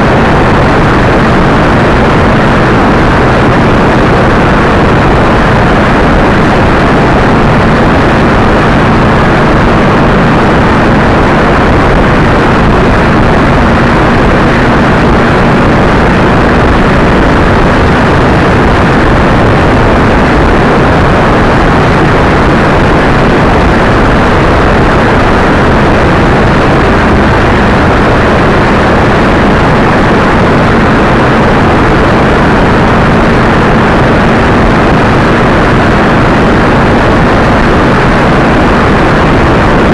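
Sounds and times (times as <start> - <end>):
motorcycle engine droning: 0.0 - 39.9
wind noise on microphone: 0.0 - 39.9.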